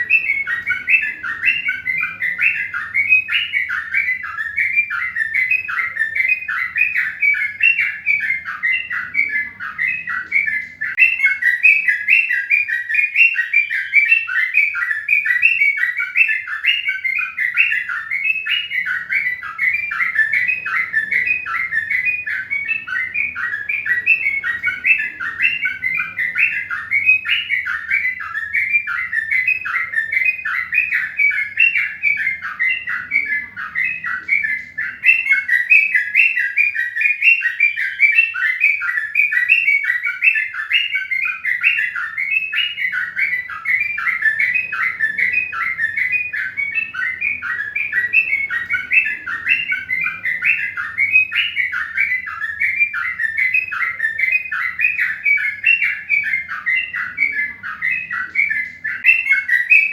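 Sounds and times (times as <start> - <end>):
bird chirping rapidly: 0.0 - 59.9.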